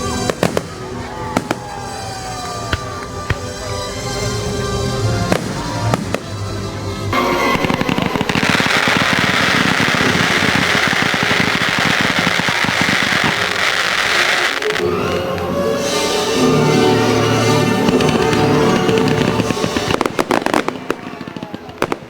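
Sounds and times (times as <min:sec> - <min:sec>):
firework bangs: 0:00.0 - 0:14.8, 0:15.8 - 0:22.0
fireworks crackling: 0:00.0 - 0:22.0
music: 0:00.0 - 0:22.0.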